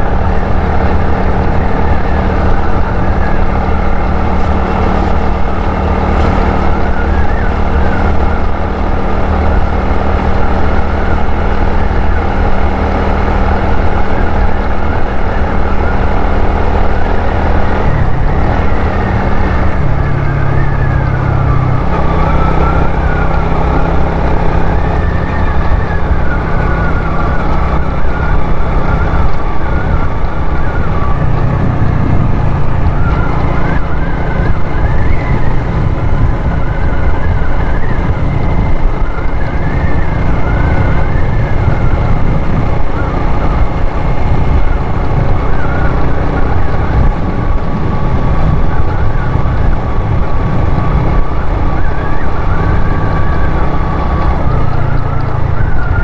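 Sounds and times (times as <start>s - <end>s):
motorcycle engine whine: 0.0s - 56.0s
wind buffeting microphone: 0.0s - 56.0s.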